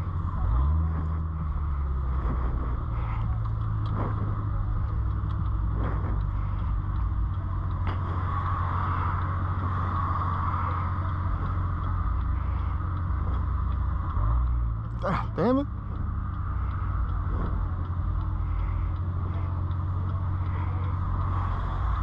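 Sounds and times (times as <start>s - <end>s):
car engine drone in cabin: 0.0s - 22.0s
road noise: 0.0s - 22.0s.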